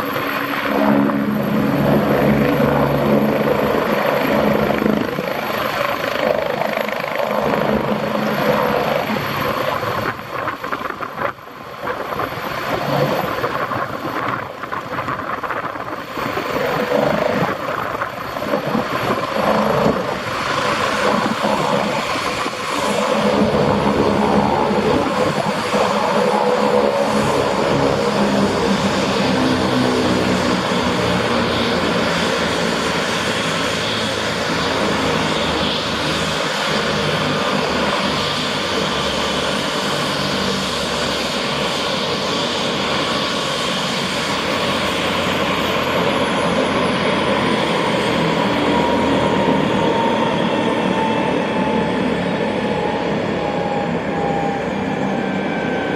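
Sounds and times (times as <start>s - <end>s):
helicopter rotor and turbine: 0.0s - 55.9s.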